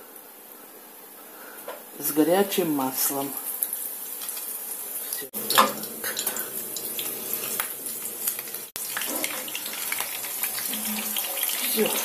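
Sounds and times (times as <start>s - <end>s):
hot oil sizzling in a frying pan: 2.0s - 12.0s.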